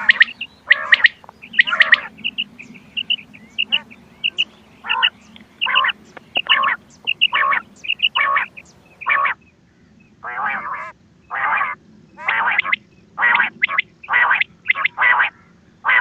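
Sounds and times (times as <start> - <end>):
quail calls: 0.0 - 9.4, 10.2 - 16.0.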